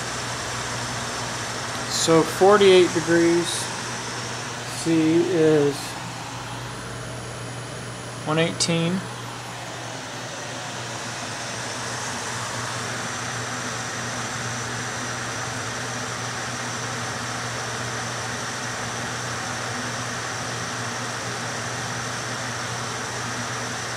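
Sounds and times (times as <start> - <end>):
fan blowing air through duct: 0.0 - 23.9.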